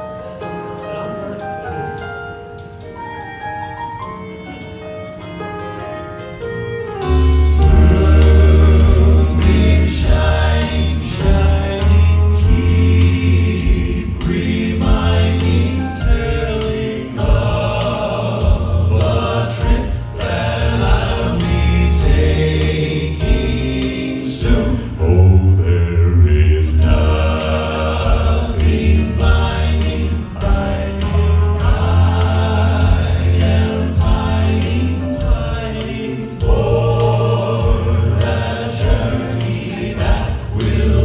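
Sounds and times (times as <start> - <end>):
instrumental accompaniment with bass: 0.0 - 41.0
male quartet singing in harmony: 6.9 - 41.0.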